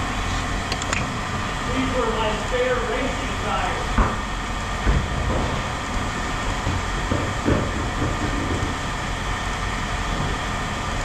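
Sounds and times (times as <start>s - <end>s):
machinery rumbling: 0.0s - 11.0s.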